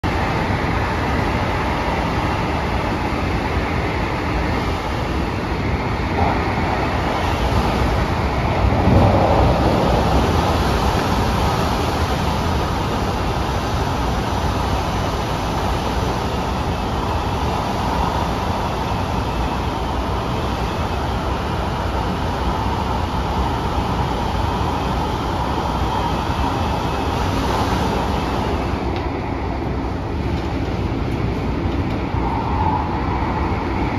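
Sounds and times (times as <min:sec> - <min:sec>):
rushing wind noise: 0:00.0 - 0:33.9
train rumbling: 0:00.0 - 0:33.9.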